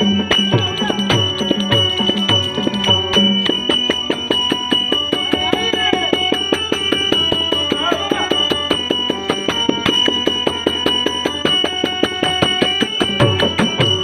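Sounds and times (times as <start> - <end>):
fast percussion strikes: 0.0 - 14.0
high held tone: 0.0 - 14.0.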